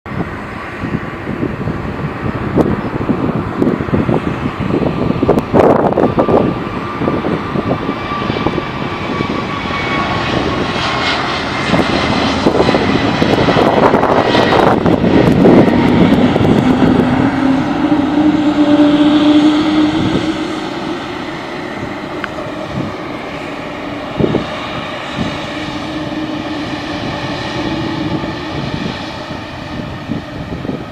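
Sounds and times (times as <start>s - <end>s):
jet engines at takeoff thrust: 0.0s - 30.9s.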